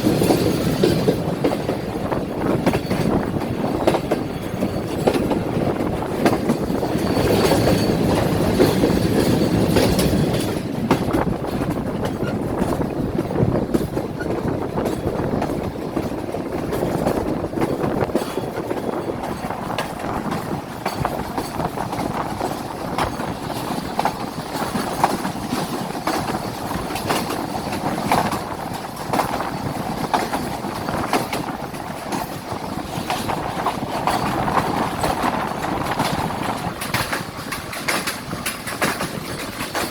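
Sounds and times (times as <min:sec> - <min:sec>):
train rumble: 0:00.0 - 0:39.9
wheels clattering over rails: 0:00.0 - 0:39.9.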